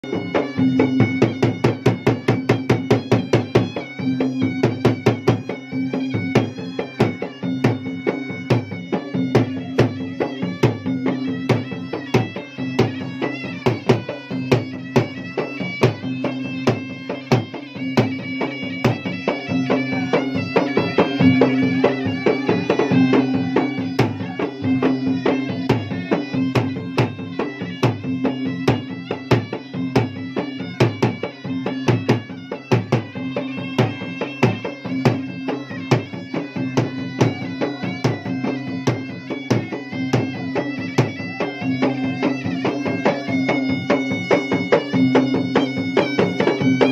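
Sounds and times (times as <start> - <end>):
barrel drums fast rhythm: 0.0 - 46.9
reedy wind instrument melody: 0.0 - 46.9.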